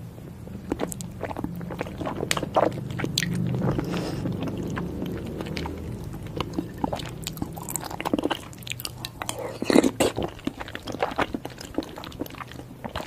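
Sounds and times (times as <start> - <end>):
low steady hum: 0.0 - 13.0
wet chewing: 0.5 - 13.0.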